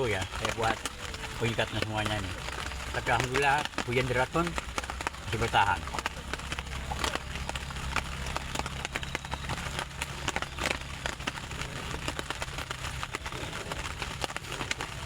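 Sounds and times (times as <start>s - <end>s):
campfire crackling: 0.0s - 15.0s
low steady rumble: 0.0s - 15.0s.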